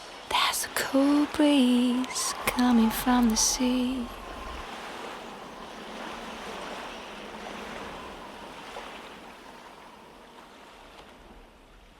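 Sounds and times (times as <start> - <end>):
ocean surf washing in: 0.0 - 11.9
faint lingering tones: 0.2 - 11.7.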